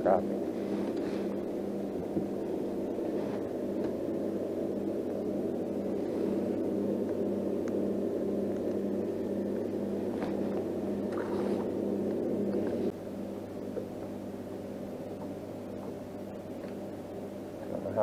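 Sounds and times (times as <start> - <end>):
electric boat motor humming: 0.0 - 18.0.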